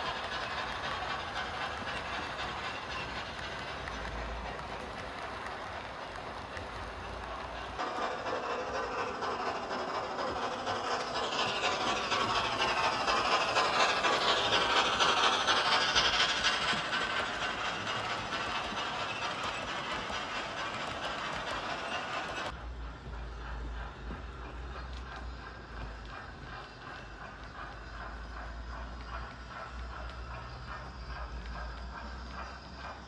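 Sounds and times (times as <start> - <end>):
steam locomotive exhaust beats: 0.0 - 33.0
wheels rattling along track: 0.0 - 33.0.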